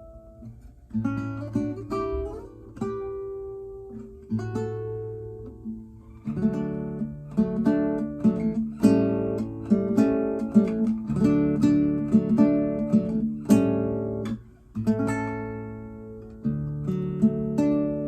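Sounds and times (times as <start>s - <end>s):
classical guitar playing: 0.0s - 18.0s.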